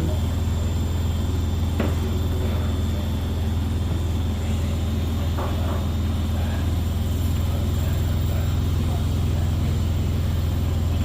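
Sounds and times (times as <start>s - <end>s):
washing machine spinning rumble: 0.0s - 11.0s.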